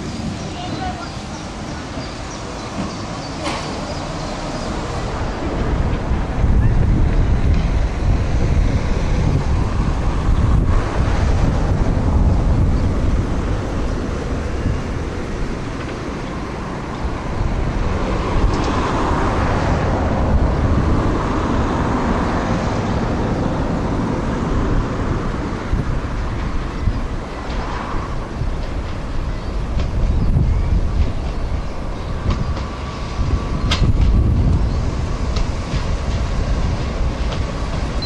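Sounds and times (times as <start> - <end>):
distant diesel train approaching: 0.0 - 38.0
wind buffeting microphone: 0.0 - 38.0.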